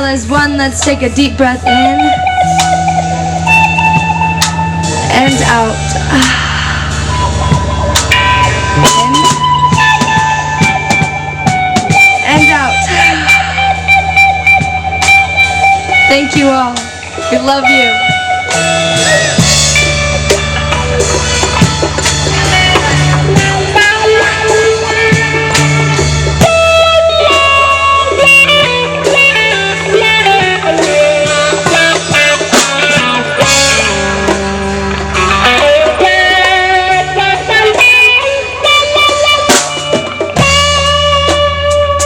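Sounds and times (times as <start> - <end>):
live rock band playing: 0.0 - 42.0.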